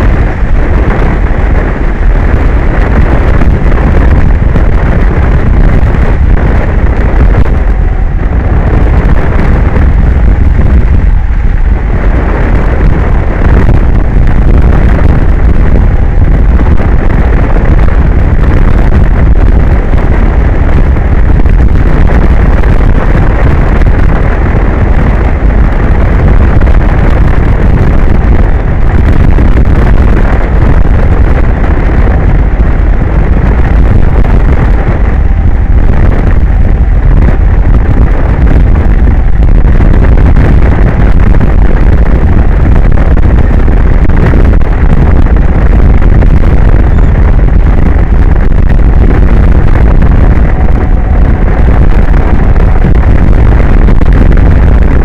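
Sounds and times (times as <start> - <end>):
strong wind buffeting microphone: 0.0 - 55.0.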